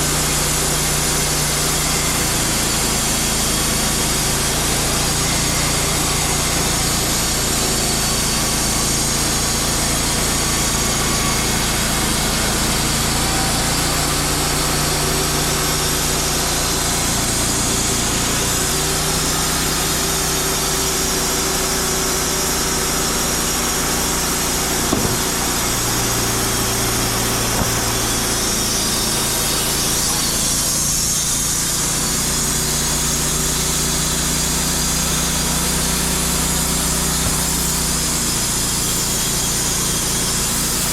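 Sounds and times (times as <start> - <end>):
bandsaw sawmill engine running: 0.0 - 40.9.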